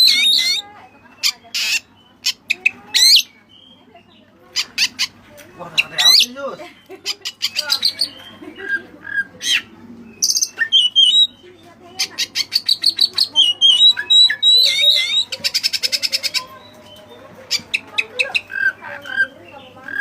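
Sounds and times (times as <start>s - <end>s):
magpie-robin singing: 0.0s - 20.0s.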